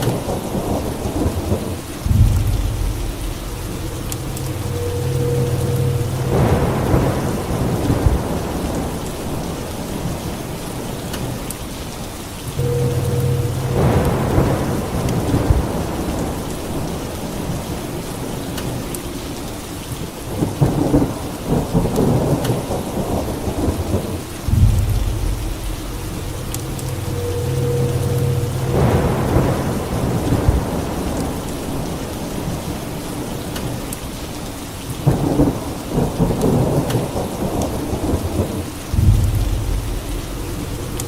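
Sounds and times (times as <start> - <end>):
heavy rain: 0.0 - 41.0
rolling thunder: 0.1 - 10.6, 12.6 - 18.8, 20.4 - 33.5, 35.0 - 41.0.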